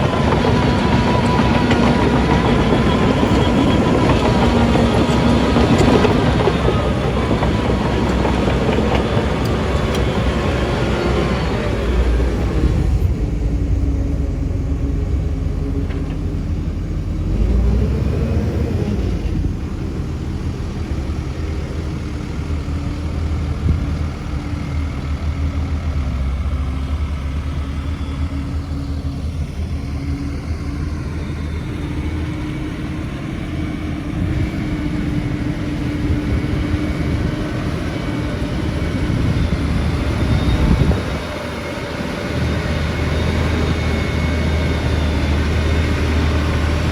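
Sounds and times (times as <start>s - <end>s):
heavy diesel machinery rumbling: 0.0s - 46.9s.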